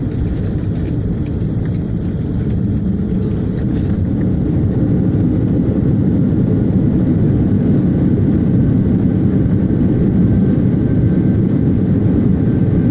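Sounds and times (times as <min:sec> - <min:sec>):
airliner landing rumble: 0:00.0 - 0:12.9.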